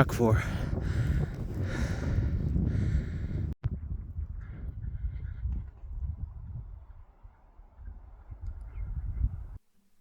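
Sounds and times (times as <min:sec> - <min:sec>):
wind gusting over microphone: 0:00.0 - 0:09.6.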